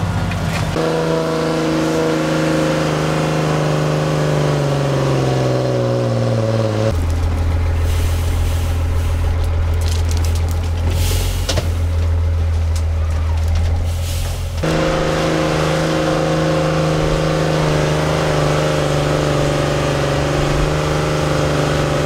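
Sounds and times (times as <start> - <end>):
deep steady engine note: 0.0 - 22.0
truck engine under load: 0.0 - 22.0.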